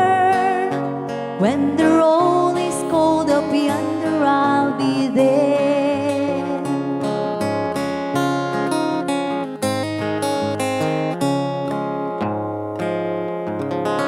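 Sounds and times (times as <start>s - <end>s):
acoustic guitar picking and strumming: 0.0s - 14.0s.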